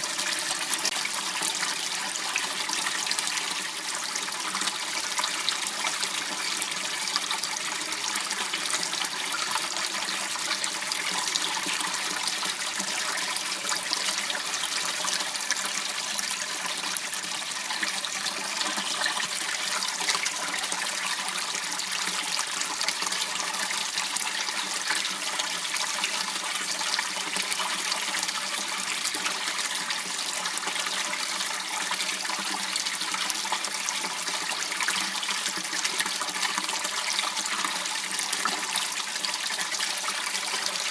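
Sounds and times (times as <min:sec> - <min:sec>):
water trickling in a stream: 0:00.0 - 0:40.9.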